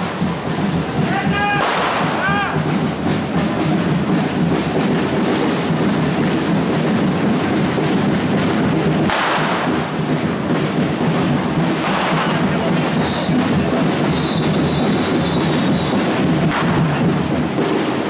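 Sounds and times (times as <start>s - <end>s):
batucada drumming: 0.0s - 18.0s
firework fountains hissing: 0.0s - 18.0s.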